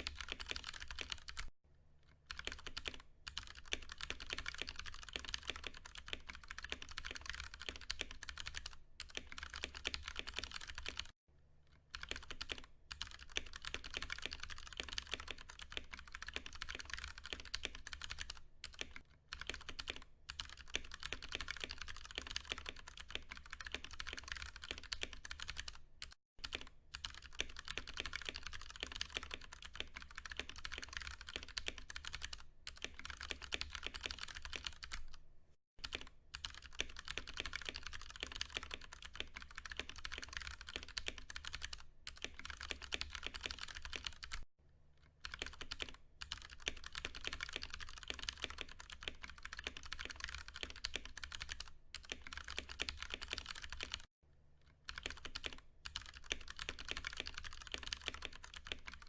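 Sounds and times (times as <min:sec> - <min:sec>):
mechanical keyboard typing: 0:00.0 - 0:01.5, 0:02.3 - 0:11.1, 0:11.9 - 0:35.2, 0:35.8 - 0:44.5, 0:45.2 - 0:54.1, 0:54.9 - 0:59.0.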